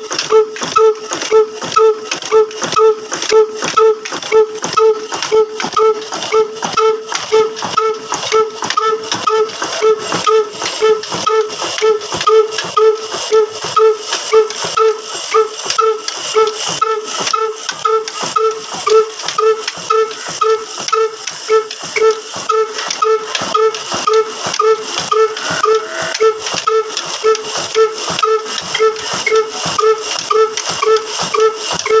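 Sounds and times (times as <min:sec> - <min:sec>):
stationary diesel engine running: 0:00.0 - 0:32.0.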